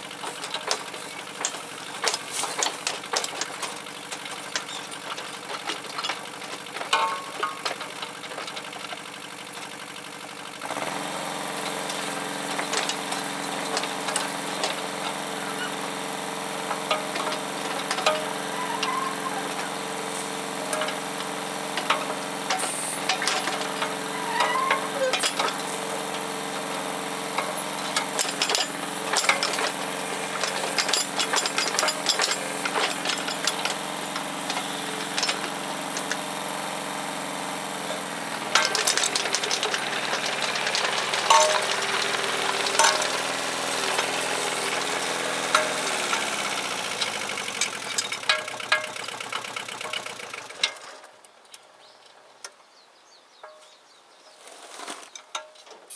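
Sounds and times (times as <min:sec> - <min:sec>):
engine running: 0:00.0 - 0:51.2
metallic knocks and clanks: 0:00.2 - 0:09.0, 0:11.5 - 0:36.4, 0:37.9 - 0:51.1.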